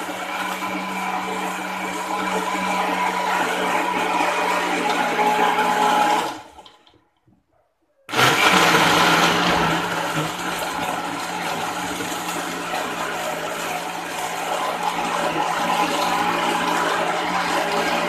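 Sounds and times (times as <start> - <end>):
blender motor grinding: 0.0 - 7.0, 8.1 - 18.0.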